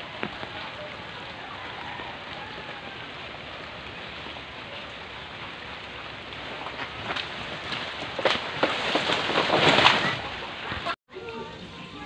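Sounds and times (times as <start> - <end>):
banana leaves crackling and rustling: 0.0 - 12.0.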